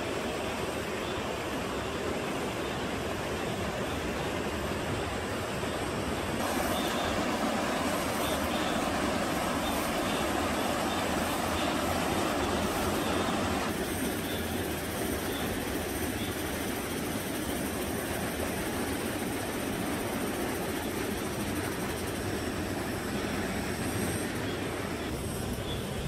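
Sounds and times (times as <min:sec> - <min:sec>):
mountain stream rushing: 0:00.0 - 0:25.1.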